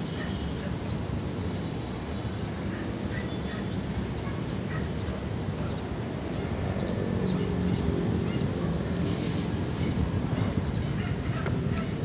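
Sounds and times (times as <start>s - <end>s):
distant city noise: 0.0s - 12.0s.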